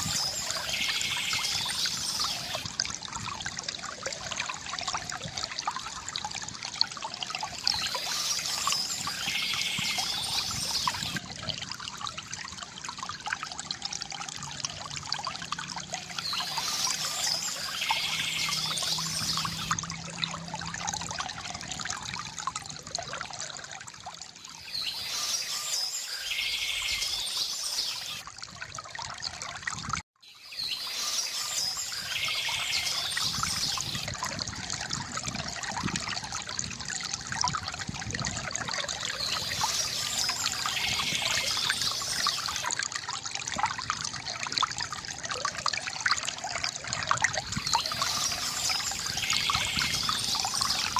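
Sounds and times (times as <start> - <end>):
water trickling from fountain: 0.0 - 50.9.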